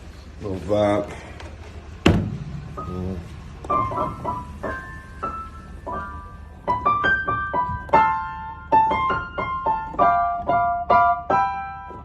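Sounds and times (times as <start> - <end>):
piano melody: 2.3 - 12.0.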